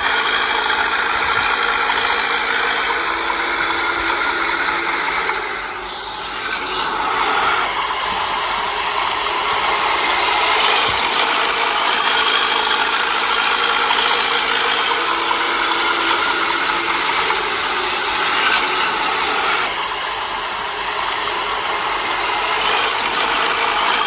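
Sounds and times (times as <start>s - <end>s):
bulldozer engine and tracks rattling: 0.0s - 24.0s.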